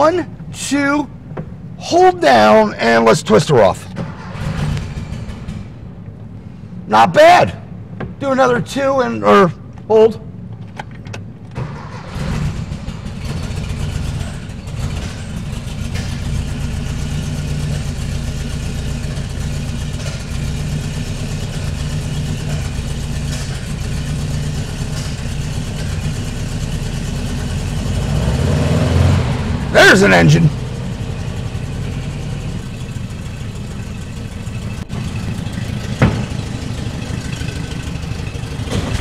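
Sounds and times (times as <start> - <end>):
car engine starting and idling: 0.0 - 39.0.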